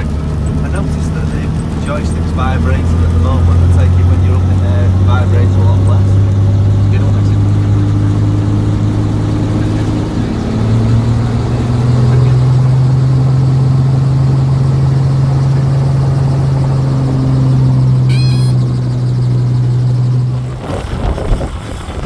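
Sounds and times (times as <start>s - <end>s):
helicopter drone from cabin: 0.0s - 22.0s.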